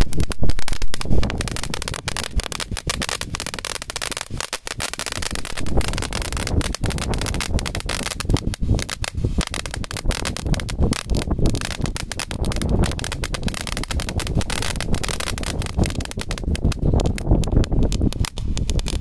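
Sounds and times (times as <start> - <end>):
firework hissing and crackling: 0.0 - 19.0.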